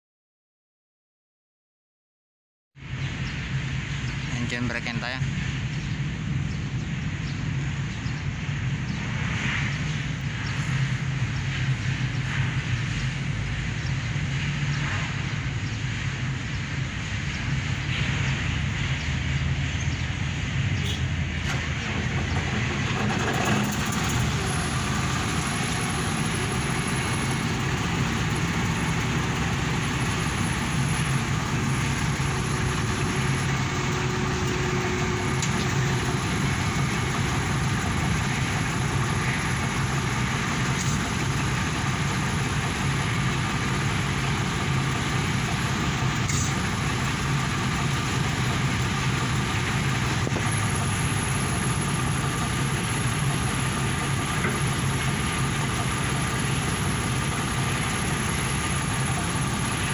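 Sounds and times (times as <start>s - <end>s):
engine idling: 3.6s - 59.9s.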